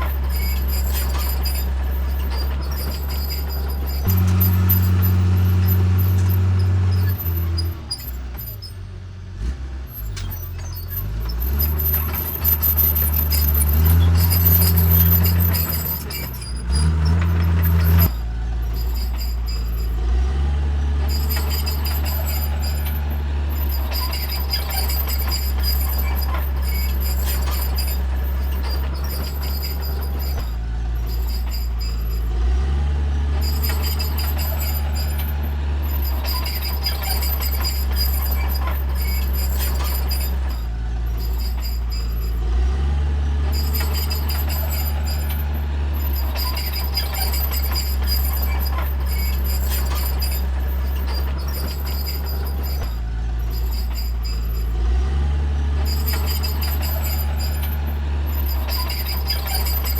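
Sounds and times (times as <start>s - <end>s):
thin high squeal: 0.0s - 8.8s, 10.0s - 32.7s, 33.4s - 42.7s, 43.4s - 55.1s, 55.8s - 59.9s
bulldozer diesel engine: 0.0s - 59.9s.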